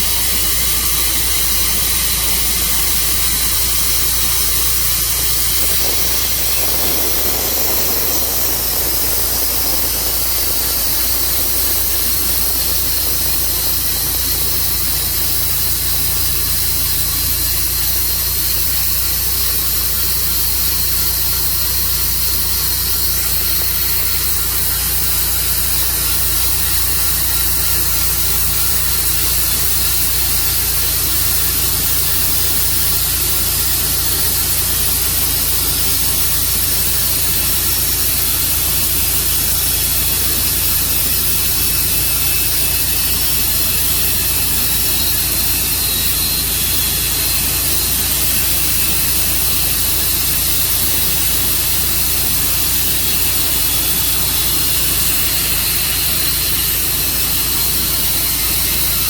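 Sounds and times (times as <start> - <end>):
sawmill engine drone: 0.0 - 59.0
strong even hiss: 0.0 - 59.0.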